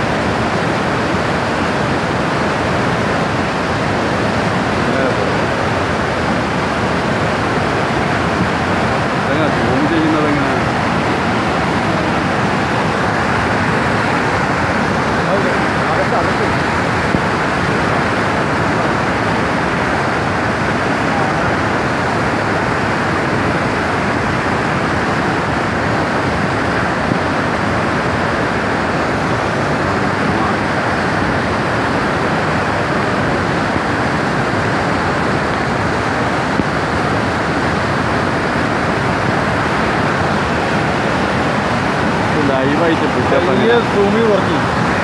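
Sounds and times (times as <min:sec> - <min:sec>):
floodwater rushing: 0:00.0 - 0:45.0.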